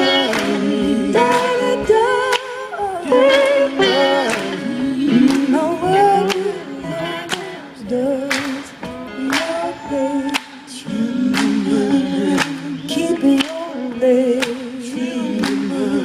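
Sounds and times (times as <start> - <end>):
voices singing together: 0.0 - 16.0.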